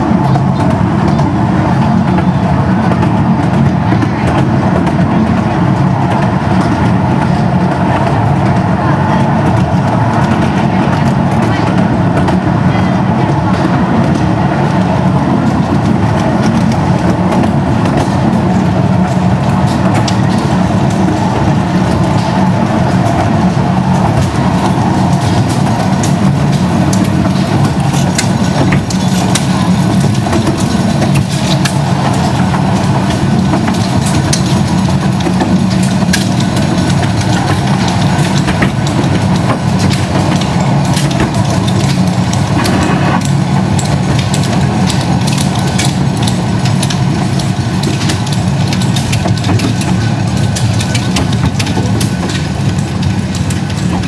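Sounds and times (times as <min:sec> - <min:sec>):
train cars clicking and rattling: 0:00.0 - 0:54.0
train engine drone: 0:00.0 - 0:54.0.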